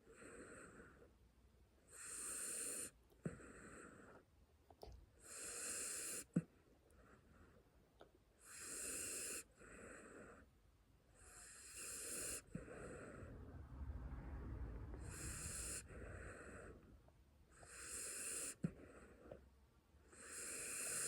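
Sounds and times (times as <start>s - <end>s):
puppy snoring: 0.0s - 1.1s, 1.8s - 7.6s, 8.4s - 13.7s, 14.3s - 19.4s, 20.0s - 21.0s.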